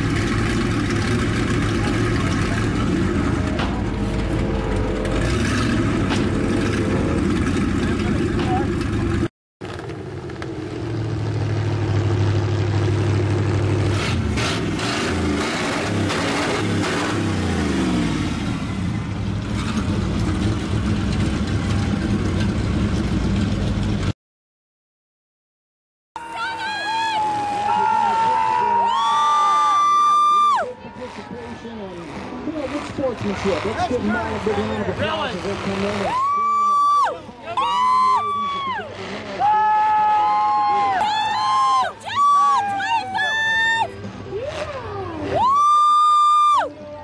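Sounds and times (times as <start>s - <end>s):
truck engines rumbling: 0.0s - 24.2s, 26.2s - 47.0s.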